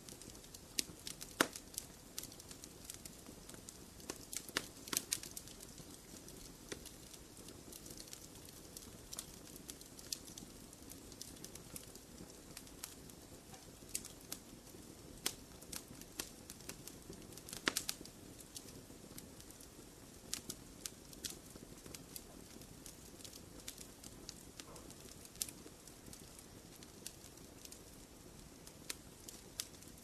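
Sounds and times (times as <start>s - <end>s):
fire crackling: 0.0s - 30.0s.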